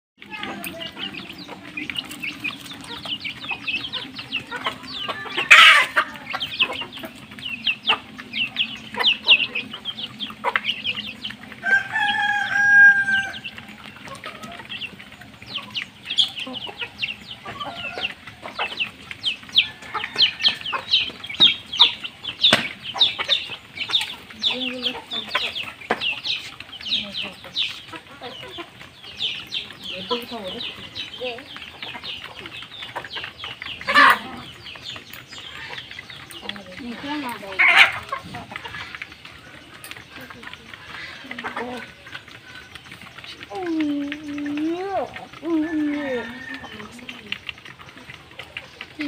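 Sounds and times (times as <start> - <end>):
chicks peeping: 0.2 - 49.0
drawn-out bird call: 0.2 - 49.0
hens clucking: 0.2 - 49.0.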